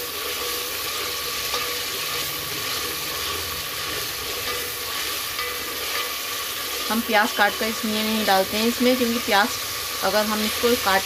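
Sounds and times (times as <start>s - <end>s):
spices sizzling in hot oil: 0.0s - 11.0s
wooden spoon stirring: 0.1s - 10.6s.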